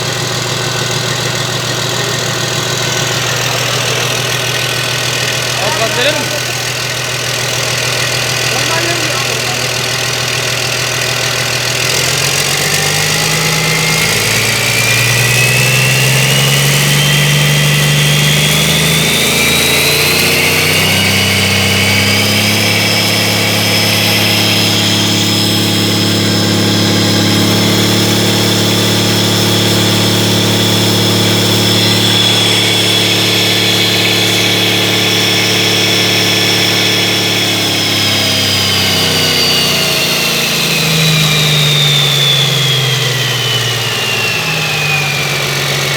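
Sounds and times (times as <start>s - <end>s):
diesel engine revving: 0.0s - 45.9s
high whine: 0.0s - 45.9s.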